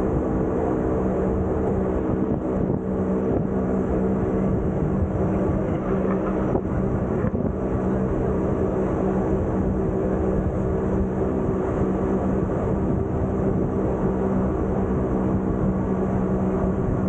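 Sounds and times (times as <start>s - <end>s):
rumble of train wheels: 0.0s - 17.0s.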